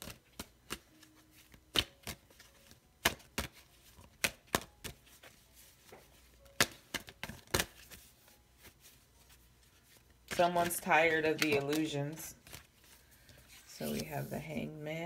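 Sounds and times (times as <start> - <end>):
cards being shuffled: 0.0 - 14.6.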